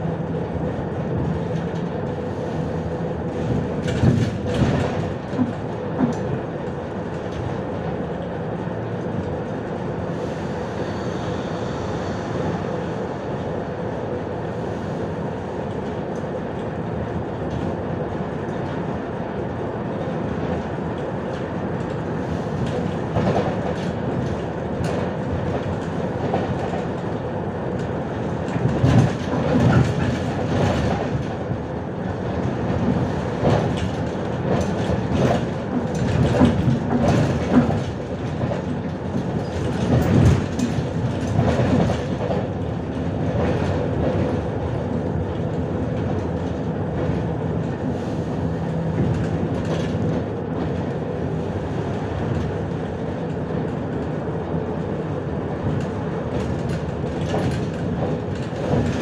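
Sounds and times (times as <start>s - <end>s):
bus body knocking and rattling: 0.0s - 10.1s, 15.2s - 59.0s
bus engine and road noise: 0.0s - 59.0s.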